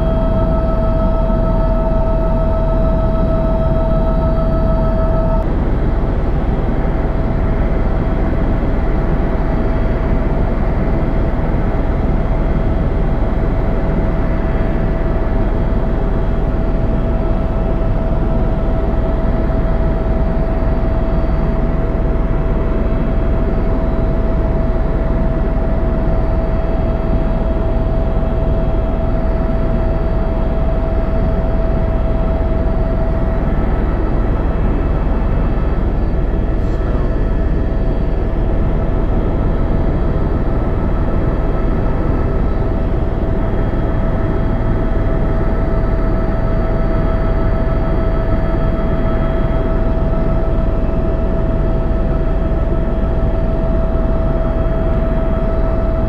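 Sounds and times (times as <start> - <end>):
constant whine: 0.0 - 56.0
helicopter rotor and engine noise: 0.0 - 56.0.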